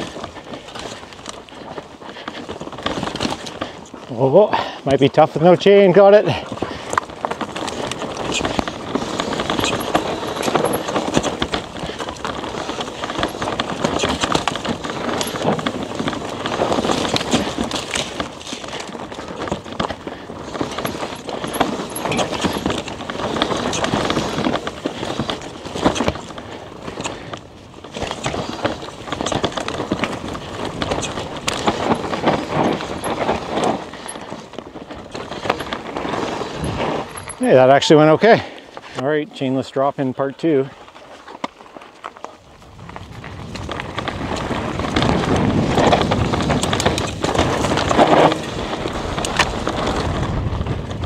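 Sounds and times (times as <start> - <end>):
bike rattling and knocking: 0.0 - 39.0, 40.6 - 51.0
tyres crunching over dirt: 0.0 - 51.0.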